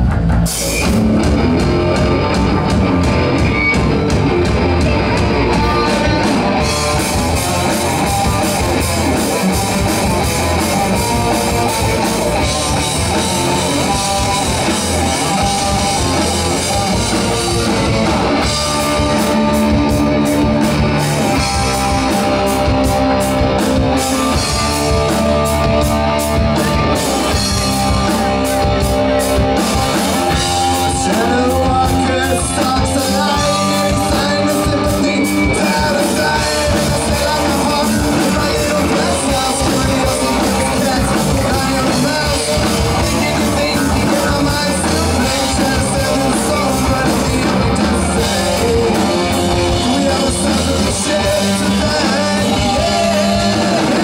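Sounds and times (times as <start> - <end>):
hard rock band playing: 0.0 - 54.0.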